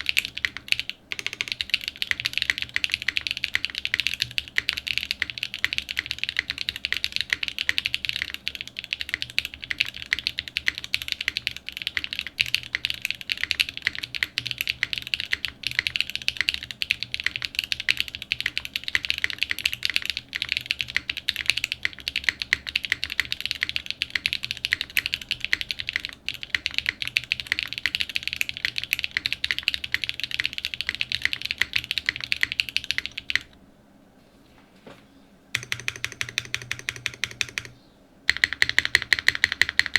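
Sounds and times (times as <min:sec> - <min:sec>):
mechanical keyboard typing: 0:00.0 - 0:33.6, 0:35.6 - 0:39.9.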